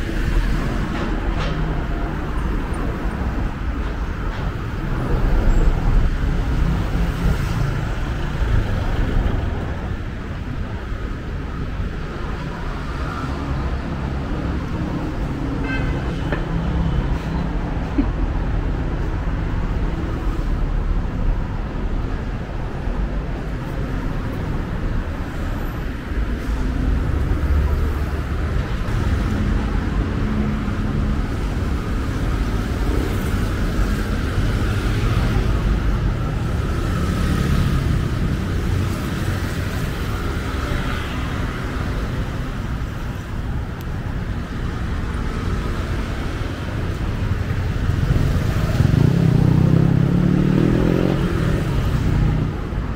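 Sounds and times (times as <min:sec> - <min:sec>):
cars and motorbikes passing: 0:00.0 - 0:52.9.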